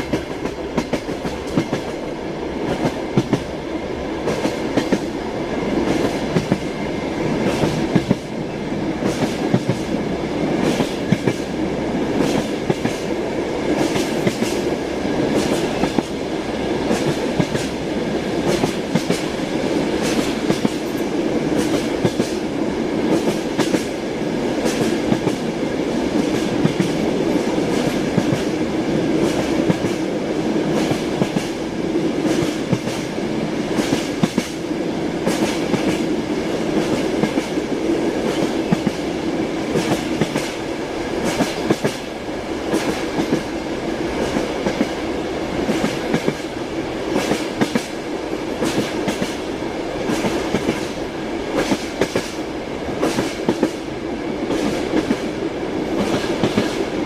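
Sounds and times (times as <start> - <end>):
train rumble and hiss: 0.0 - 57.0.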